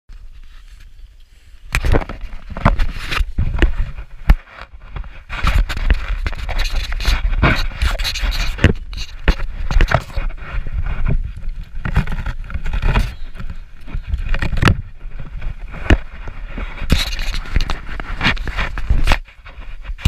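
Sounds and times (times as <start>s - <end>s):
wind rumbling on microphone: 0.1s - 20.0s
skis scraping over snow: 2.2s - 20.0s.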